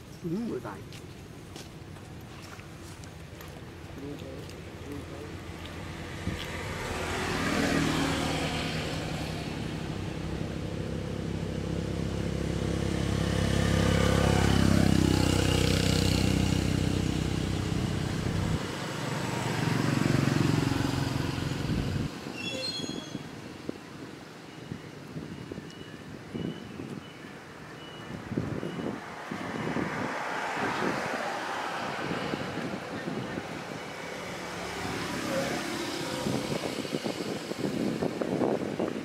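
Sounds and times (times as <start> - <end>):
passing vehicle engine rumble: 0.0 - 26.4, 27.3 - 39.0.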